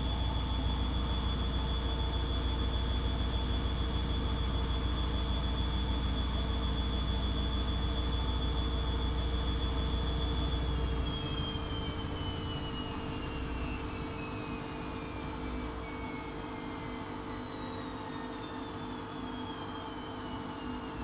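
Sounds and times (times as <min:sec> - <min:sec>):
washing machine motor whine: 0:00.0 - 0:21.0.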